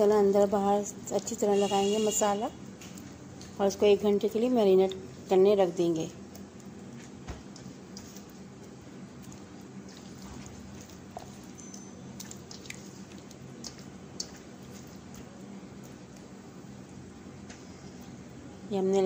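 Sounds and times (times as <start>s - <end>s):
wet squelching of marinade: 0.0s - 16.9s
steady low hum: 0.0s - 19.0s.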